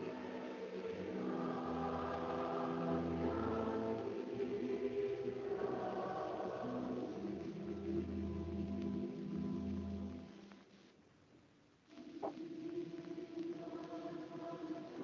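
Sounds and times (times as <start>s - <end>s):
slow choral music: 0.0s - 10.5s, 11.9s - 15.0s.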